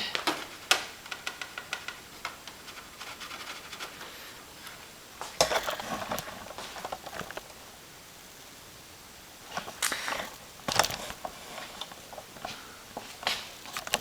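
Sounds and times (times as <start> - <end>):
hands scratching and rustling: 0.3 - 7.6, 9.5 - 14.0.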